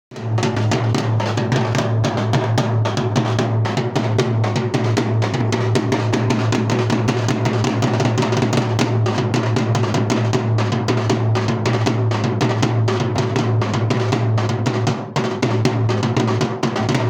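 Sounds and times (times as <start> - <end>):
dhol drumming: 0.1 - 17.0.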